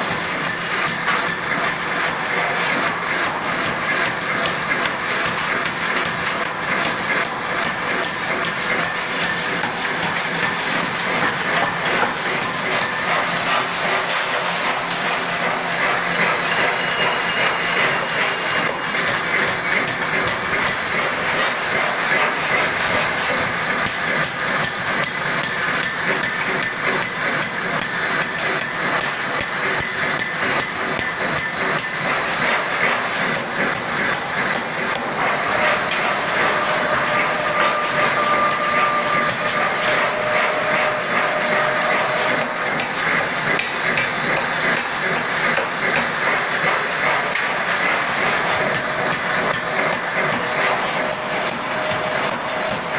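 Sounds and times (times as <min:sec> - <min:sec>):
air hammer striking metal: 0:00.0 - 0:52.9.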